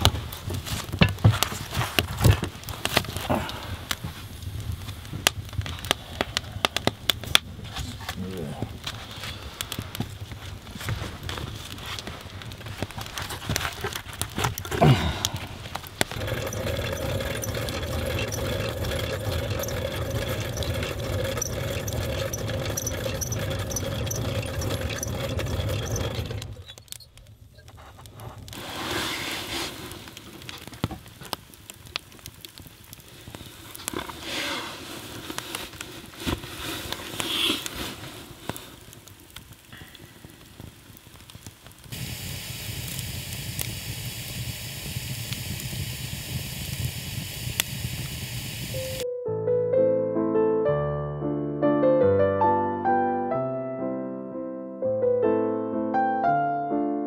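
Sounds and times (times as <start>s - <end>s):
steady hiss: 0.0s - 25.2s, 25.8s - 49.0s
wood fire crackling in stove: 0.0s - 49.0s.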